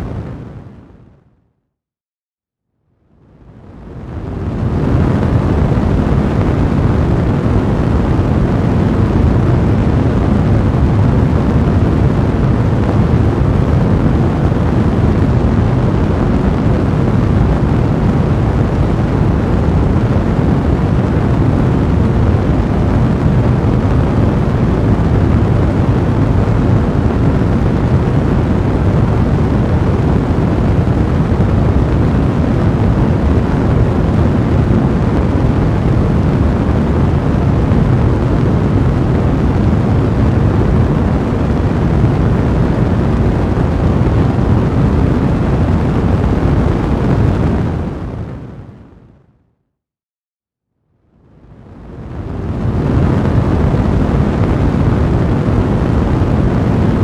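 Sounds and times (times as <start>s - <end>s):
fire blazing low rumble: 0.0s - 1.2s, 3.2s - 49.0s, 51.3s - 57.0s.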